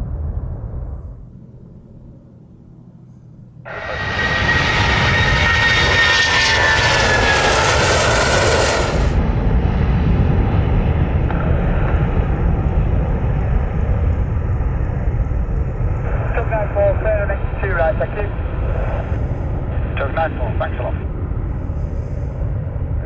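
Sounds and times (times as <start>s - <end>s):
jet airliner engines passing: 0.0s - 23.0s.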